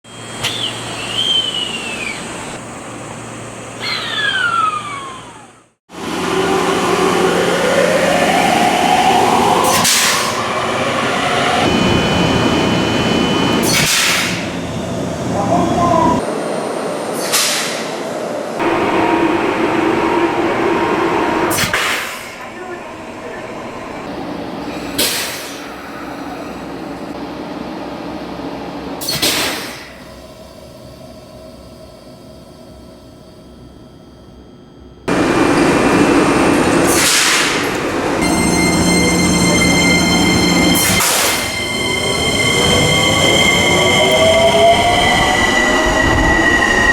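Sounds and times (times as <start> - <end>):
machinery hum: 0.1 - 17.2, 17.9 - 29.0, 29.9 - 46.9.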